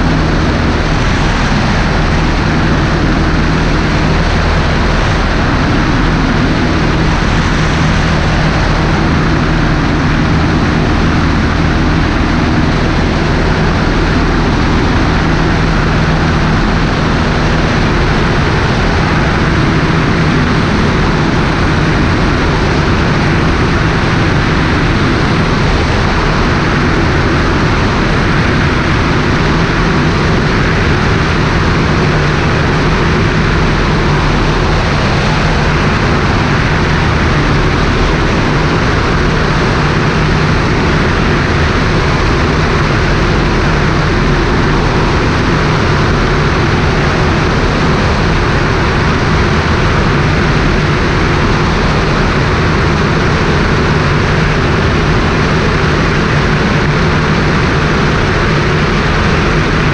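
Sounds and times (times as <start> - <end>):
airflow rushing: 0.0 - 59.9
airplane engine and propeller: 0.0 - 59.9.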